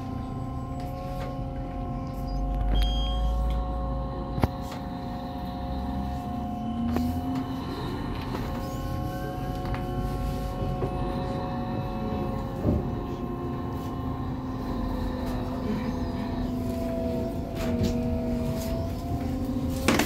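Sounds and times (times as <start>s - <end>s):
electric motor whine: 0.0s - 20.0s
road rumble: 0.0s - 20.0s.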